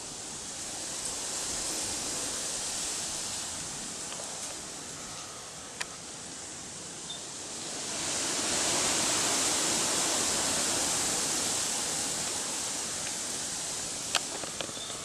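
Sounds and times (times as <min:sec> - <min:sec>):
wind rushing through leaves: 0:00.0 - 0:15.0.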